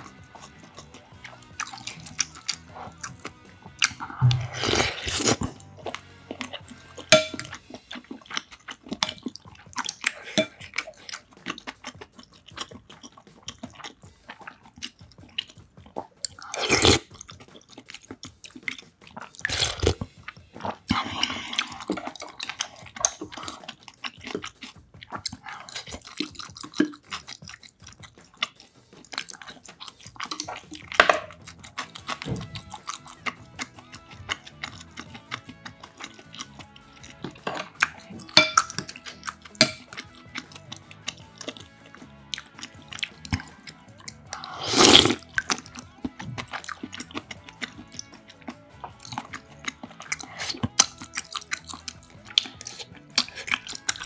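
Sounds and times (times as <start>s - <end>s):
chewing and slurping soup: 0.0s - 54.0s.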